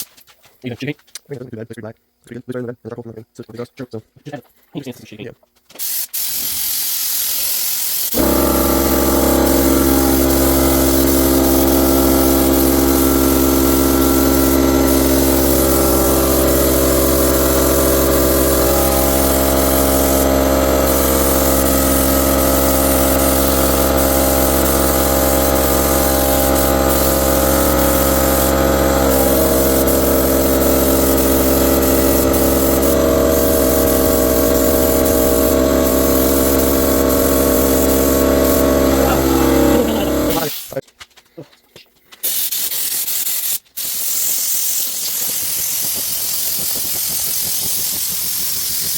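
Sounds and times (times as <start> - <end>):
air compressor running: 5.8 - 40.8, 42.2 - 48.9.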